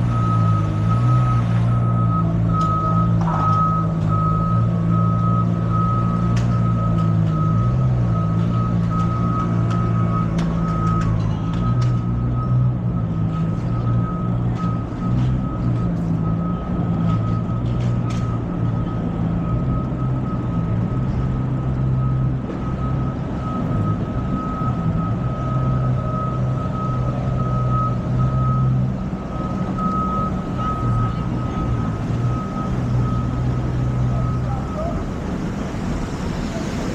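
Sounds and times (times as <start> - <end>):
large vehicle engine humming: 0.0 - 36.9.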